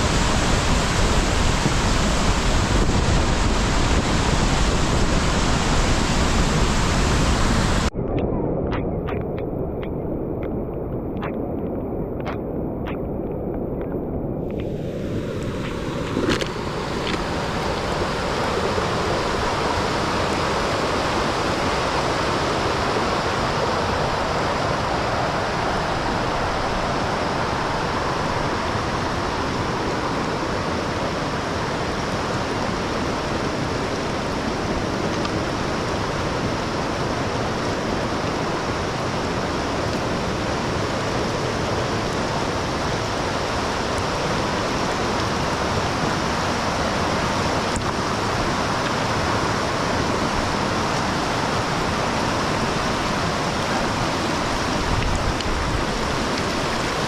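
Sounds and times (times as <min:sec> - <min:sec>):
flowing water rushing: 0:00.0 - 0:08.0, 0:08.8 - 0:57.0.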